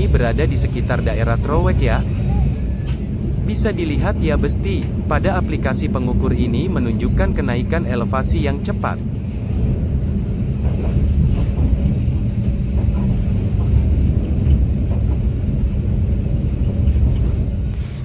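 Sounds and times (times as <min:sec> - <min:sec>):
train rumbling from inside coach: 0:00.0 - 0:18.0.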